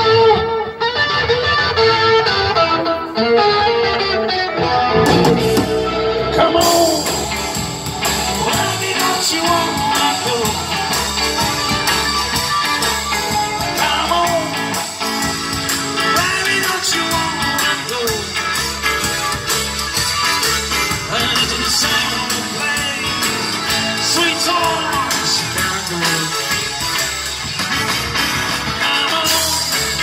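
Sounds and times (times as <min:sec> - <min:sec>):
band playing blues-rock: 0:00.0 - 0:30.0.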